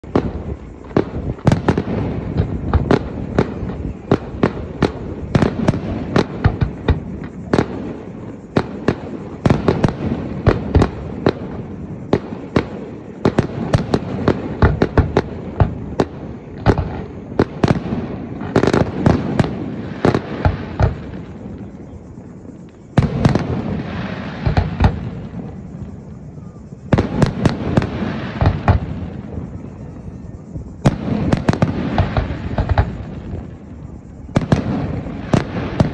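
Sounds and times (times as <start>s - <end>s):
fireworks bangs: 0.0s - 35.9s.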